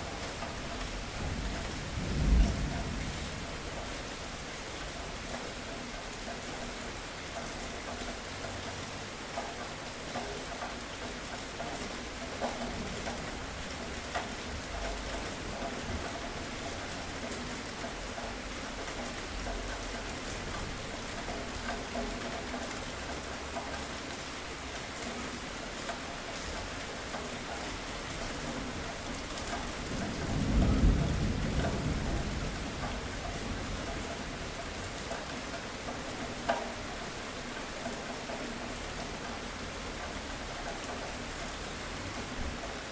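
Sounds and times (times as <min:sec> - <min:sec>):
rain on a hard surface: 0:00.0 - 0:42.9.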